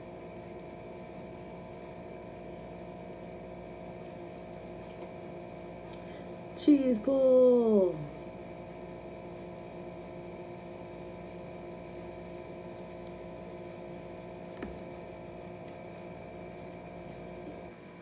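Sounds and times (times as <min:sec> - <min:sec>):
steady hum of held tones: 0:00.0 - 0:18.0.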